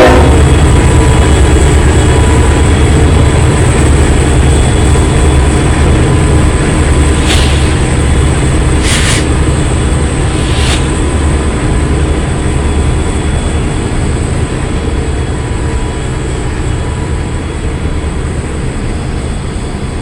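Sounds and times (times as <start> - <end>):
train cars rumbling on rails: 0.0 - 20.0.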